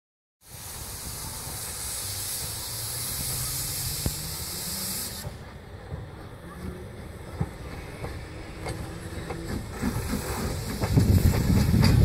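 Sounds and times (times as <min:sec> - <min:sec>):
steam locomotive hissing: 0:00.4 - 0:12.0.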